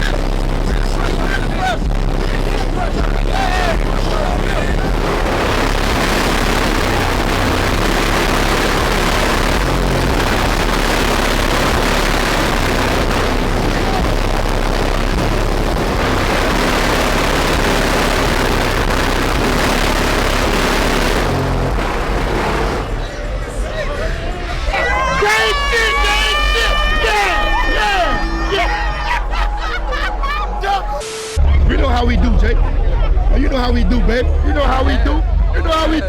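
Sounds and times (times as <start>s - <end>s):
distorted loud bass music: 0.0s - 36.0s.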